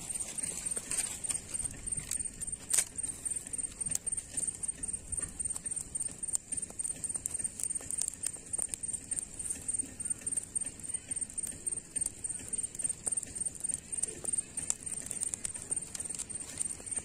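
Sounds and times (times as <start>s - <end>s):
high pulsed chirp: 0.0s - 17.0s
wood fire crackling: 0.0s - 17.0s.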